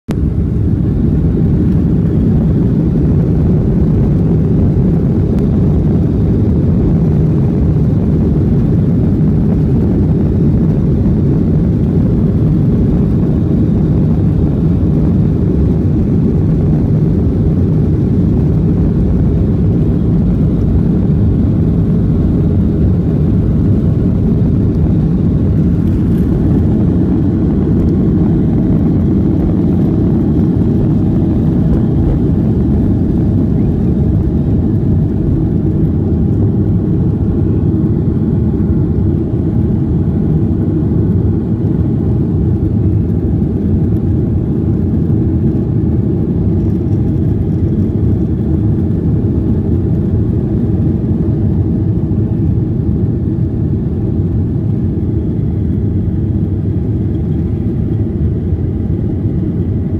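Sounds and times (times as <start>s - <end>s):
jet engines and airframe rumble: 0.0s - 59.9s.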